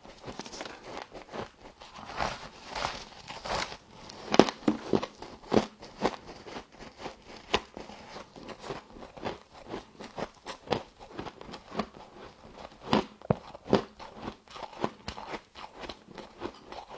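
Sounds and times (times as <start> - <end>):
frost being chewed crunching: 0.0 - 16.9.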